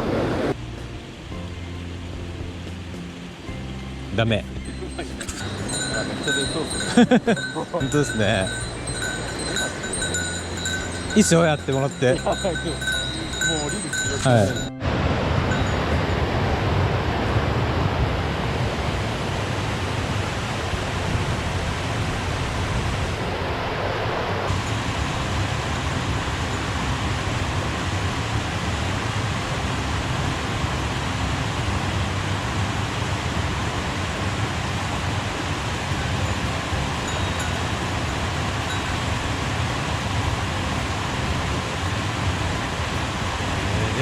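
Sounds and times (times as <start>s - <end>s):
mountain stream rushing: 2.0s - 44.0s.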